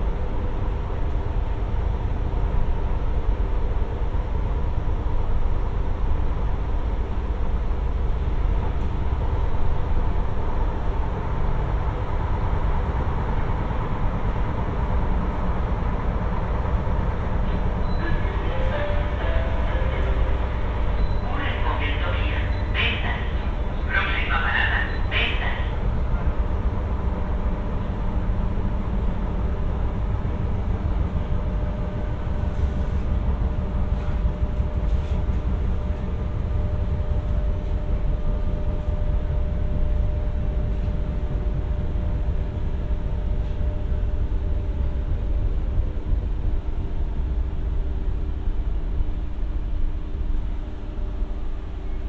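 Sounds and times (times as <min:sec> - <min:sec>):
electric train rumbling: 0:00.0 - 0:52.0.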